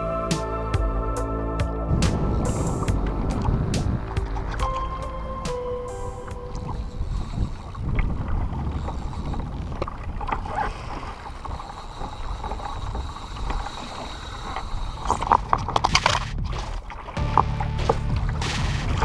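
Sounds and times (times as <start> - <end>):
wind buffeting microphone: 0.8 - 17.3
water lapping against kayak hull: 1.8 - 19.0.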